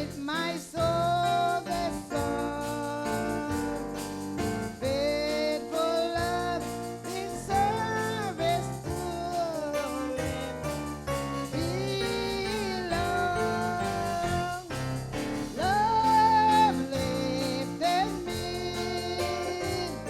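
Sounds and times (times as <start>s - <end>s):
keyboard accompaniment: 0.0s - 20.0s
person singing gospel song: 0.0s - 20.0s.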